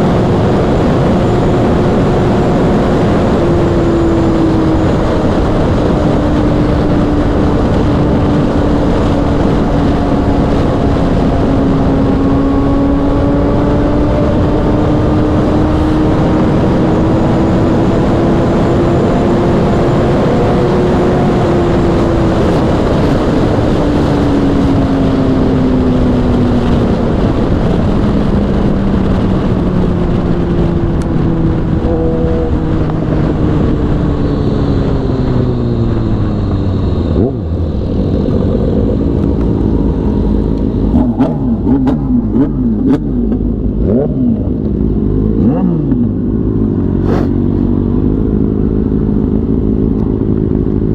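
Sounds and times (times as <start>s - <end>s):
motorcycle engine at high revs: 0.0s - 50.9s
wind rush: 0.0s - 50.9s.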